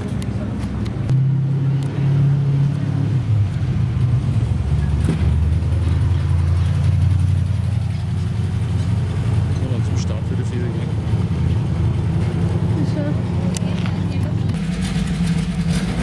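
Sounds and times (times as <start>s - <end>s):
racing car engine running: 0.0s - 16.0s.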